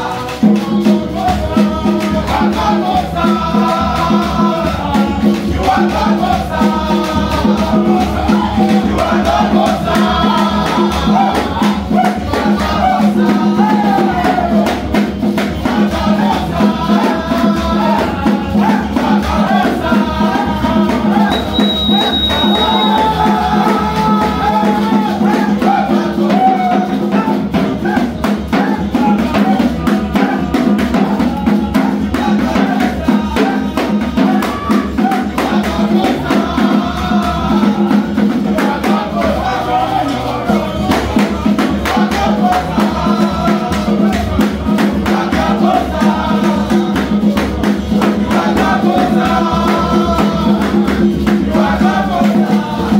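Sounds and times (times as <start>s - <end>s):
acoustic guitar: 0.0s - 52.9s
group singing: 0.0s - 52.9s
steady drum beat: 0.0s - 52.9s.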